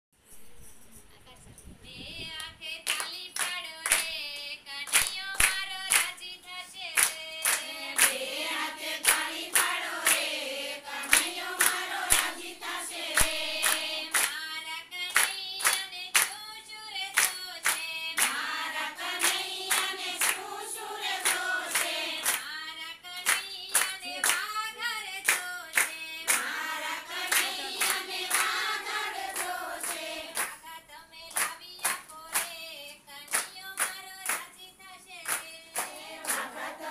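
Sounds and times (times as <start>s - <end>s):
women singing together: 2.2s - 36.9s
hand claps: 2.8s - 6.3s, 7.0s - 10.3s, 10.9s - 36.9s.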